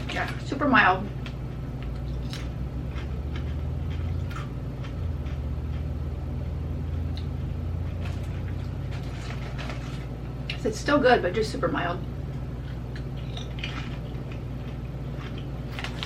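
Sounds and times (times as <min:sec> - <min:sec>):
potato chips being chewed: 0:00.0 - 0:06.0, 0:07.1 - 0:10.6, 0:12.3 - 0:16.0
steady low hum: 0:00.0 - 0:16.0.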